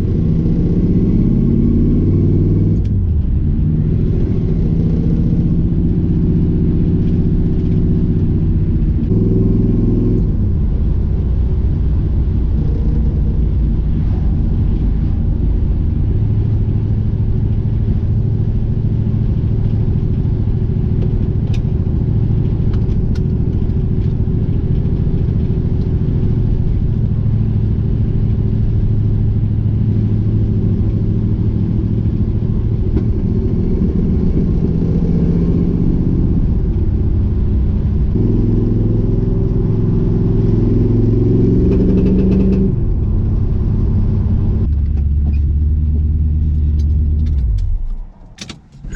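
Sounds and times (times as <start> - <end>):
car engine running: 0.0 - 48.9.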